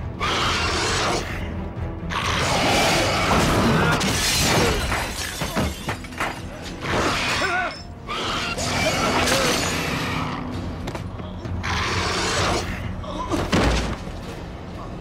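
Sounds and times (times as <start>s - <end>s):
dramatic music score: 0.0s - 15.0s.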